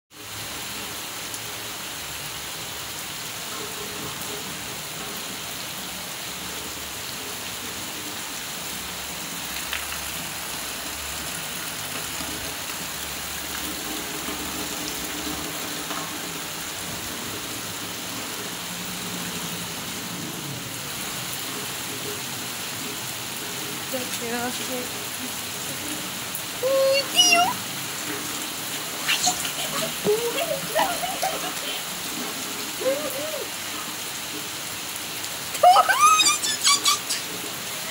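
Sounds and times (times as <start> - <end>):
heavy rain: 0.1 - 37.9.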